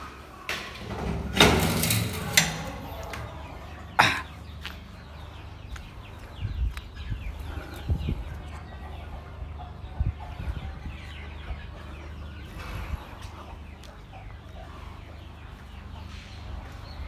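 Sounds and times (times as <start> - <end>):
birds chirping: 0.0 - 17.0
steady low rumble: 2.8 - 17.0.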